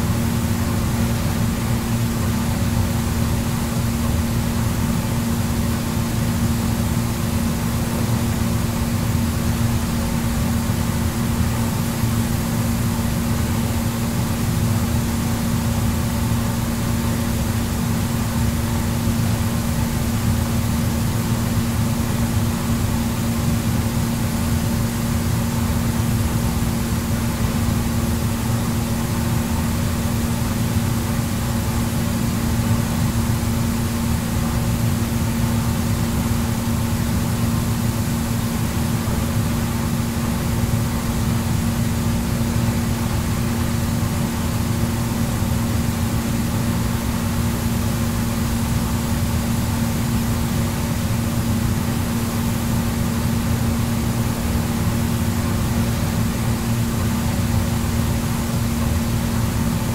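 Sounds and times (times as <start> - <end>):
constant low hum: 0.0 - 59.9.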